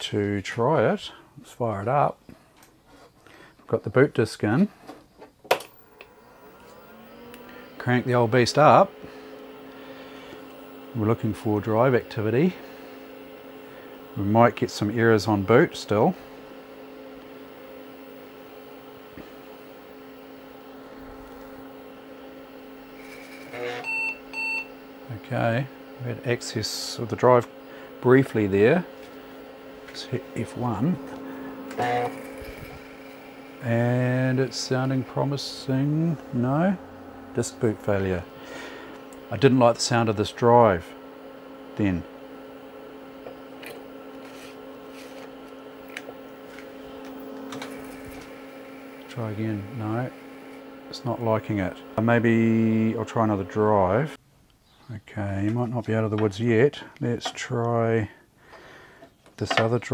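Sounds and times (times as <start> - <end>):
floppy drive clicks: 5.4 - 54.2
computer fan hum: 5.7 - 54.2.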